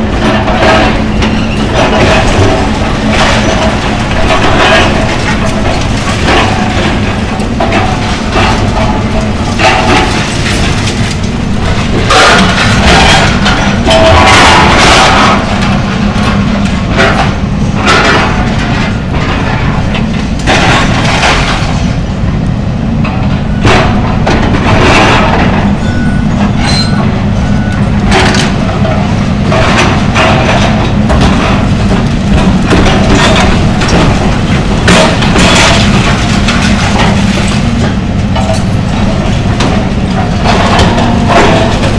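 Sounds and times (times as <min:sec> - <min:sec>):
falling debris: 0:00.0 - 0:22.2, 0:23.0 - 0:41.9
building material crashing: 0:00.0 - 0:22.3, 0:22.9 - 0:41.9
excavator diesel engine running: 0:00.0 - 0:41.9.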